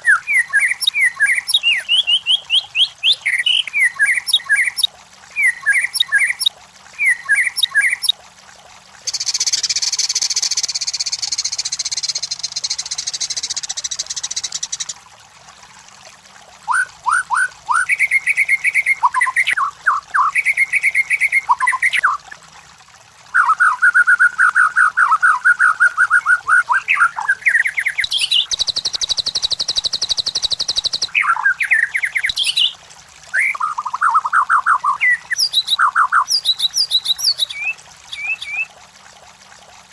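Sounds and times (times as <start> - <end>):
bird singing whistled phrases: 0.0 - 8.1, 9.1 - 14.9, 16.7 - 22.2, 23.4 - 38.7.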